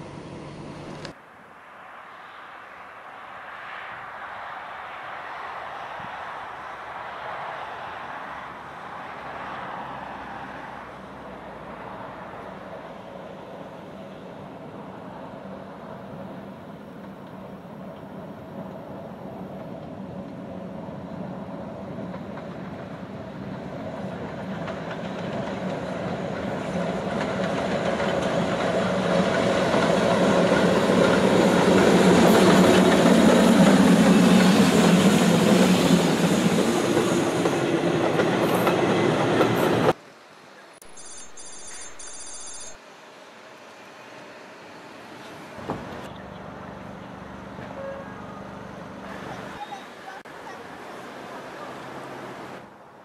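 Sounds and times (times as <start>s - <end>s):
steam locomotive hauling a train: 3.9s - 52.9s.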